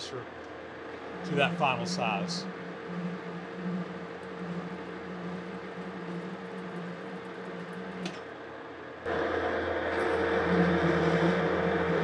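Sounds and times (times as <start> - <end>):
metal lathe humming: 0.7 - 8.4, 9.1 - 12.0.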